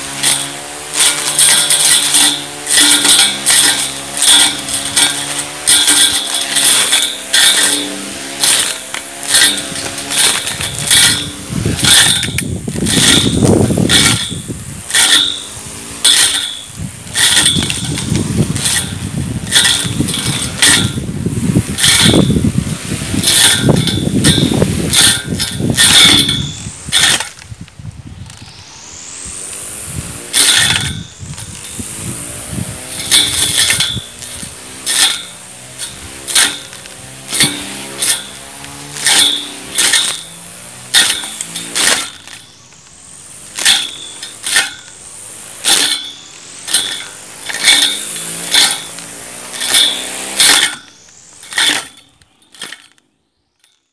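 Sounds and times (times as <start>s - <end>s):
electric grass trimmer whirring: 0.0s - 53.1s.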